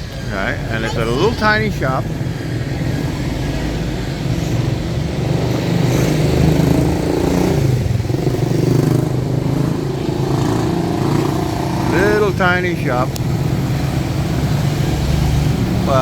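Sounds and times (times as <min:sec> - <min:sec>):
vehicles passing: 0:00.0 - 0:16.0.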